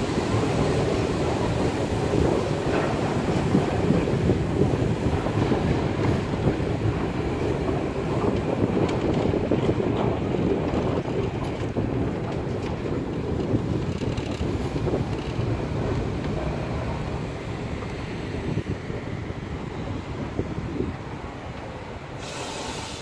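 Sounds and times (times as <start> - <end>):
steam locomotive rumbling on track: 0.0 - 23.0
wind on microphone: 0.0 - 23.0.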